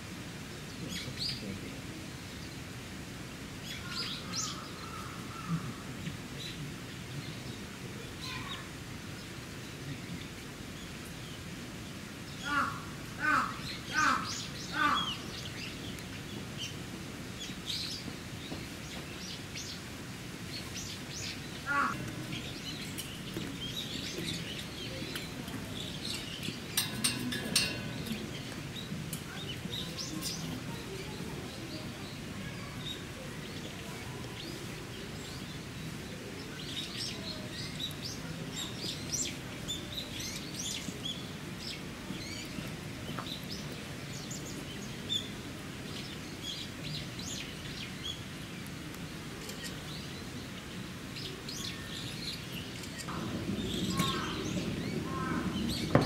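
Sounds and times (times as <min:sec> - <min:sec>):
steady background hiss: 0:00.0 - 0:56.0
small birds chirping: 0:00.5 - 0:02.9, 0:03.5 - 0:56.0.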